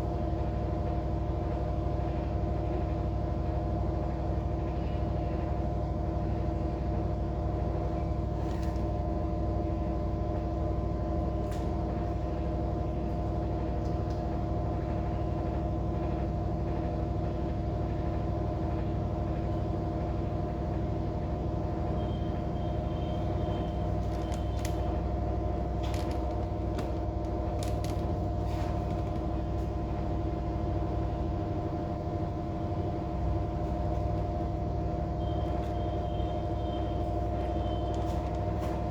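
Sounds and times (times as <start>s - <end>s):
machine humming: 4.6s - 38.9s.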